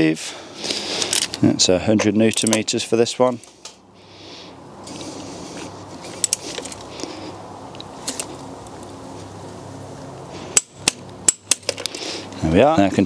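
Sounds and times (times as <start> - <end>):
low mechanical hum: 0.3 - 13.0.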